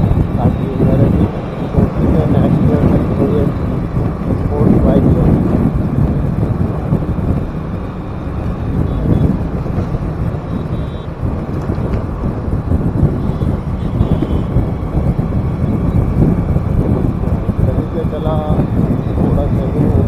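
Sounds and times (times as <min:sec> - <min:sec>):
motorbike engine: 0:00.0 - 0:20.0
road noise: 0:00.0 - 0:20.0
wind rushing over microphone: 0:00.0 - 0:20.0.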